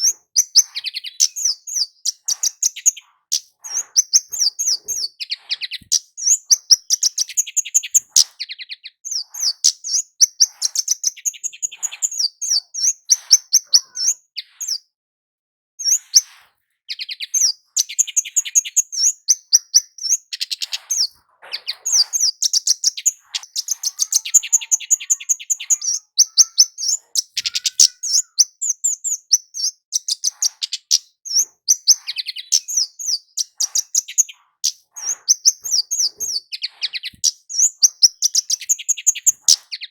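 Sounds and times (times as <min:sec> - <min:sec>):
bird singing high thin chips: 0:00.0 - 0:14.8, 0:15.8 - 0:39.9.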